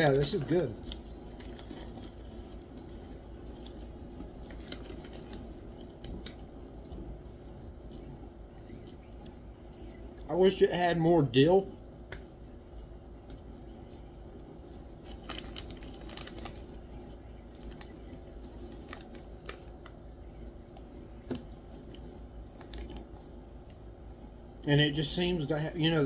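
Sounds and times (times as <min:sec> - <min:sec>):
popcorn being chewed: 0:00.0 - 0:10.5, 0:11.3 - 0:24.7.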